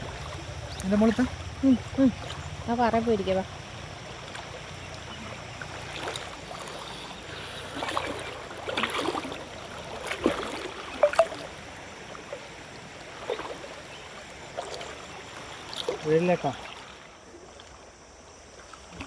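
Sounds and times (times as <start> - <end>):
river water running over rocks: 0.0 - 19.0
water splashing: 0.0 - 19.0.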